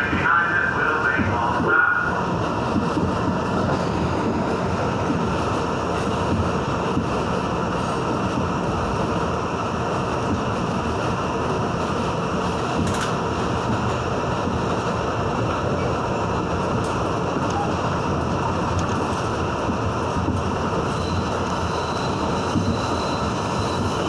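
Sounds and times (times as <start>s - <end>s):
subway train wheels rumbling on rail: 0.0s - 24.0s.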